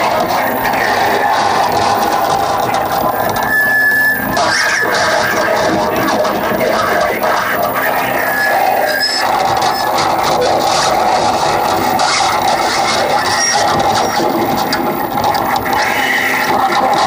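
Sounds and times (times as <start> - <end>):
harsh grating electronic noise: 0.0 - 17.0
steady electronic drone: 0.0 - 17.0.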